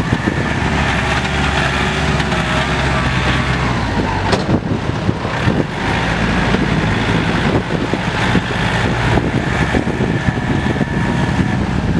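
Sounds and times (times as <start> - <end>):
diesel tractor engine clattering: 0.0 - 11.9.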